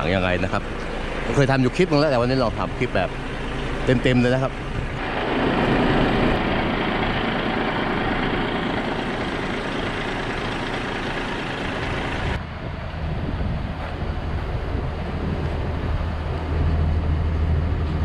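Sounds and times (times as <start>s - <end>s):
truck engine humming: 0.0s - 18.0s
dense rushing noise: 0.1s - 18.0s.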